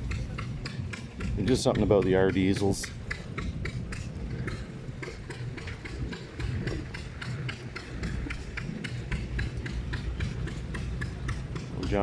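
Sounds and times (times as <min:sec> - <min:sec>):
low rumble: 0:00.0 - 0:12.0
machine clicking rapidly: 0:00.0 - 0:12.0.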